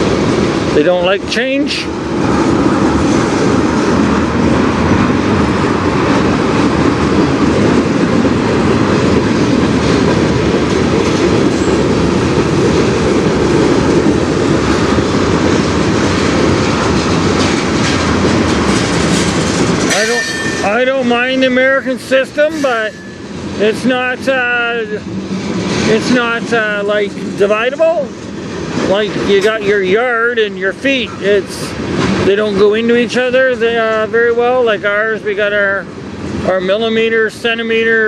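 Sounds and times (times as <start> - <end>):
freight train cars rolling: 0.0 - 38.0.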